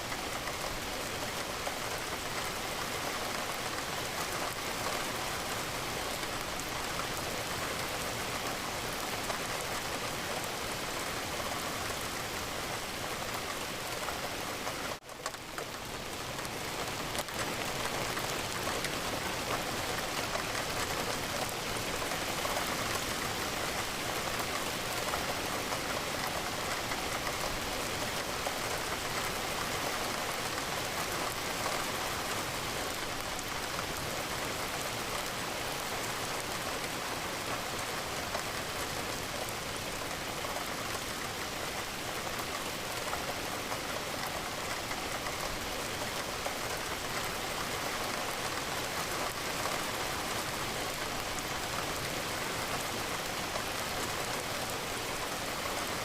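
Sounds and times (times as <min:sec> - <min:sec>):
rain on a window: 0:00.0 - 0:56.0.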